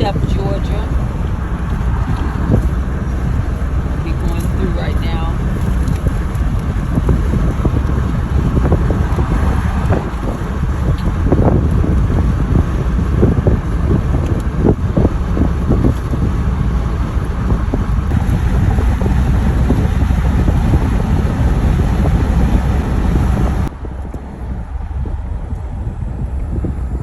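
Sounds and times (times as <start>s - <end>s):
vehicle rumble from inside: 0.0s - 27.0s
wind noise on microphone: 0.0s - 27.0s.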